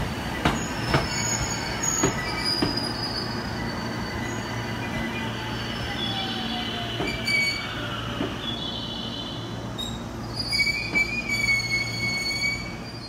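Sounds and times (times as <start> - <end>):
high wheel squeals: 0.4 - 13.0.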